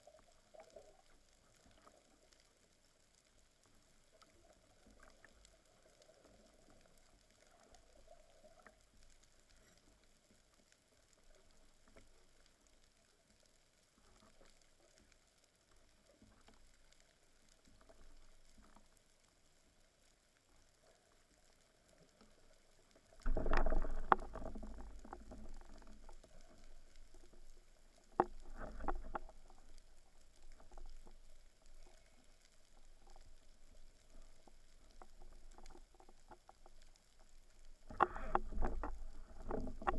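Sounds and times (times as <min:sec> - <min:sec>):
faint underwater hiss: 0:00.0 - 0:39.9.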